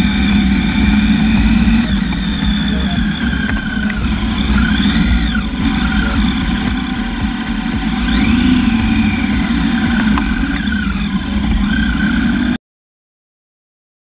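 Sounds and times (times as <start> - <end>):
city traffic: 0.0 - 12.6
motorcycle engine running: 0.0 - 12.6.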